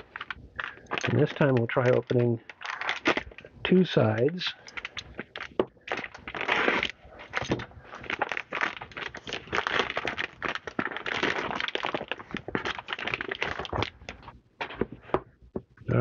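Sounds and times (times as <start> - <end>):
plastic mailer bag crinkling: 0.0 - 14.9.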